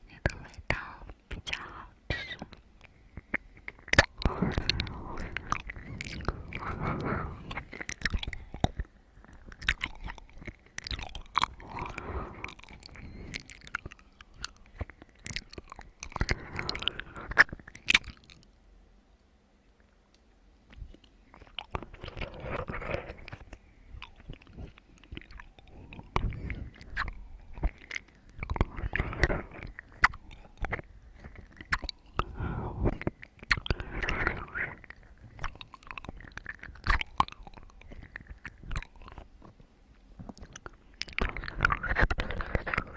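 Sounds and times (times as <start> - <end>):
wet chewing and crunchy biting: 0.3 - 18.6, 20.7 - 42.9.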